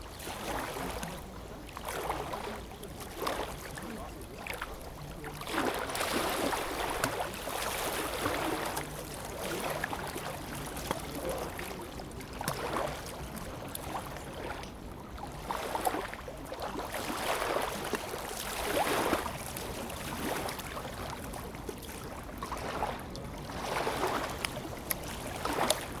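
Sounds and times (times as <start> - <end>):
waves lapping against shore: 0.0 - 26.0.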